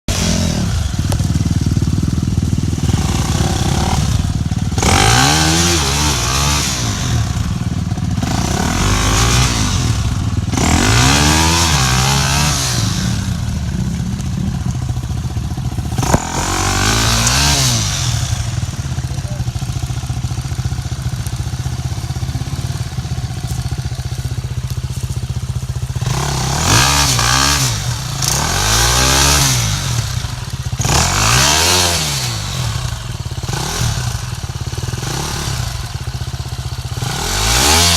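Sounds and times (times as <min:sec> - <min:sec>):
off-road vehicle engine revving: 0:00.0 - 0:37.9.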